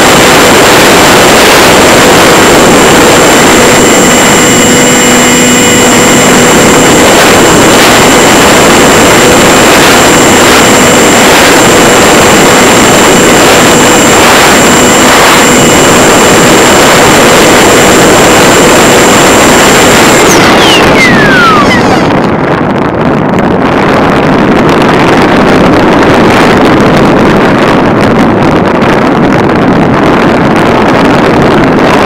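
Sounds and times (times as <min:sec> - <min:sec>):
electric motor propeller whine: 0:00.0 - 0:32.0
rushing air noise: 0:00.0 - 0:32.0.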